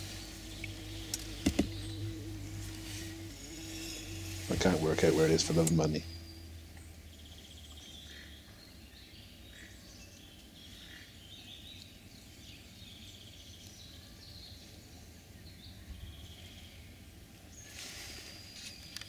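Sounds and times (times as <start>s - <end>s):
low steady background hum: 0.0s - 17.6s
small birds chirping and warbling: 0.0s - 19.0s.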